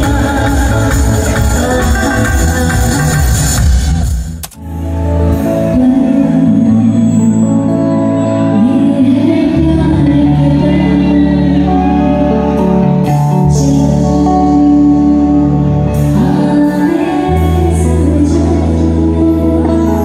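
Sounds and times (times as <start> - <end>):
woman singing: 0.0 - 3.4, 5.4 - 20.0
electric bass: 0.0 - 20.0.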